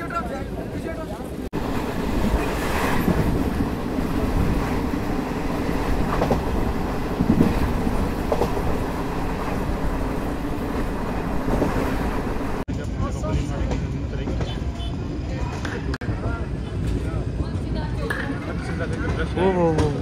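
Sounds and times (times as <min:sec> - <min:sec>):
train wheels rumbling on rails: 0:00.6 - 0:20.0.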